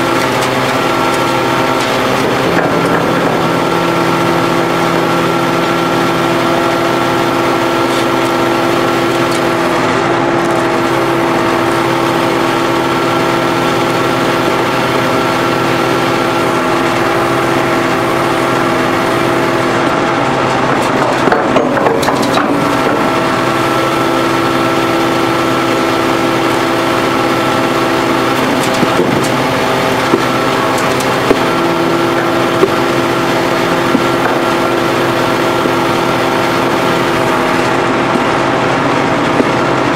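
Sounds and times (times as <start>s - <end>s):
hydraulic machine drone: 0.0s - 39.9s.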